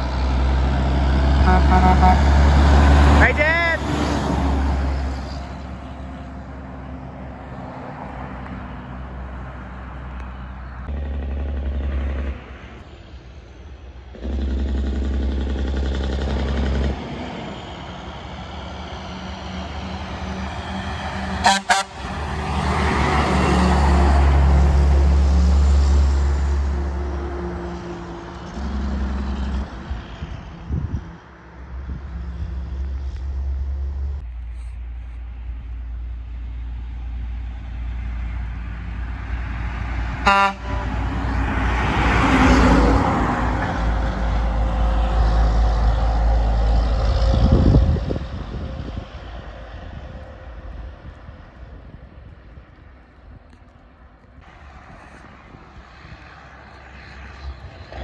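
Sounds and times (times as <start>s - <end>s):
diesel trucks passing: 0.0s - 58.0s.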